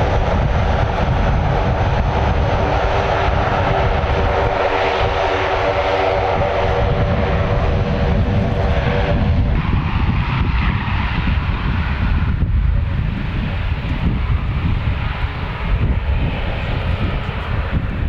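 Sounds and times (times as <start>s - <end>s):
military aircraft engines passing: 0.0s - 18.0s.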